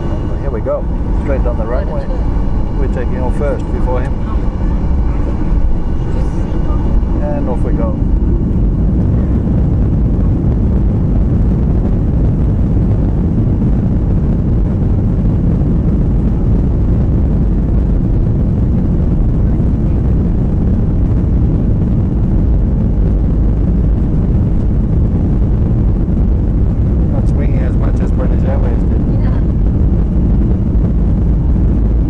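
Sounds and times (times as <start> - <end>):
jet engine rumble inside cabin: 0.0 - 32.0.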